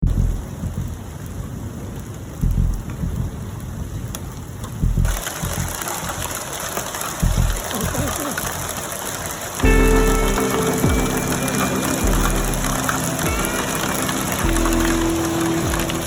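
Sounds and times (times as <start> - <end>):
hail and rain pelting: 0.9 - 16.0.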